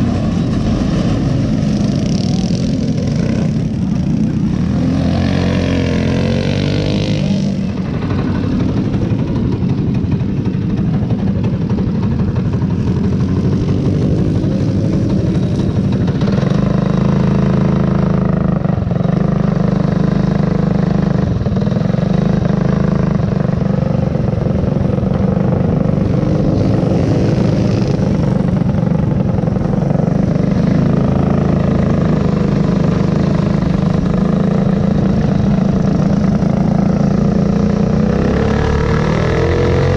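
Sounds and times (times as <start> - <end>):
go-kart engine running hard: 0.0 - 39.9
kart passing by: 0.0 - 39.9.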